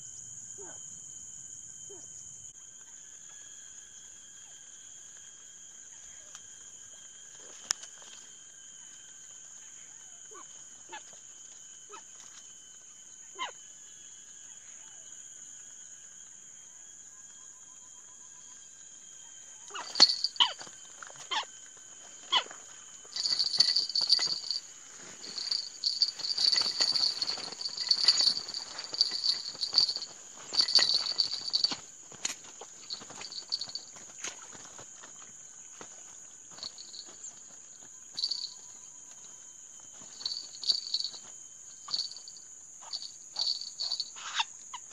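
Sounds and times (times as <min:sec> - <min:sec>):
insect chorus: 0:00.0 - 0:44.9.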